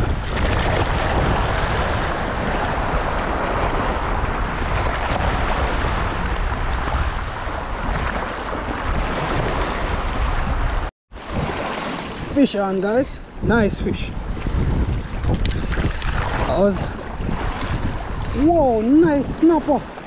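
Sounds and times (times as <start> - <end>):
small waves breaking on shore: 0.0 - 20.0
wind buffeting microphone: 0.0 - 20.0.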